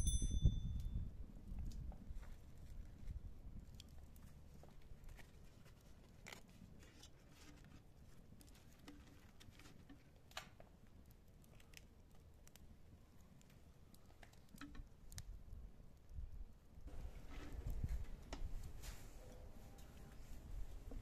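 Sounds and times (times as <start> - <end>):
faint crackles and rustles: 0.6 - 21.0.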